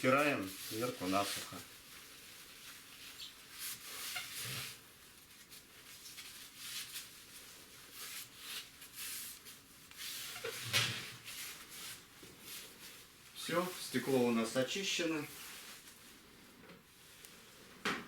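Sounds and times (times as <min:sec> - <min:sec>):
paper wiping glass: 0:00.0 - 0:16.0.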